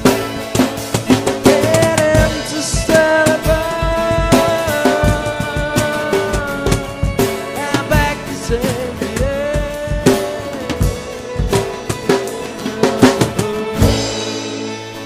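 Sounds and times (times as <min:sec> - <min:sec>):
drum kit beat: 0:00.0 - 0:15.0
rock band playing live: 0:00.0 - 0:15.0.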